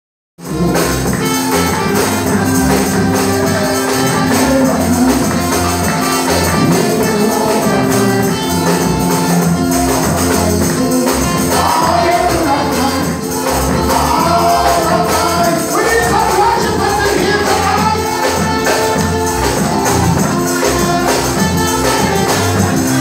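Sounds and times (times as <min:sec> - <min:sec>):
congregation singing: 0:00.4 - 0:23.0
tambourine shaking: 0:00.4 - 0:23.0
bass line: 0:00.5 - 0:23.0.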